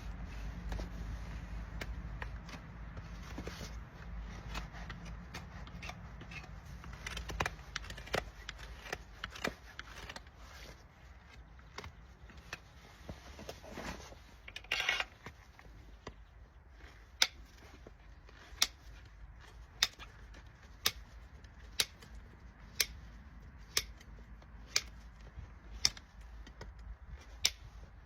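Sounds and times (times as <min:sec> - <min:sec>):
tools clicking and scraping hoof: 0:00.0 - 0:28.0.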